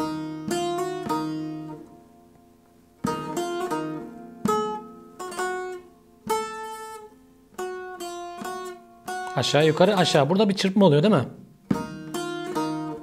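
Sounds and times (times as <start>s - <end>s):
long-neck lute picked notes: 0.0s - 13.0s.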